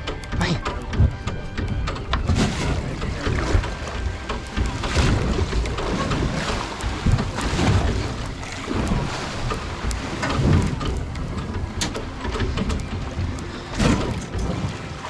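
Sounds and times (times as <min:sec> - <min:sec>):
waves splashing against boat: 0:00.0 - 0:15.0
wind buffeting microphone: 0:00.0 - 0:15.0.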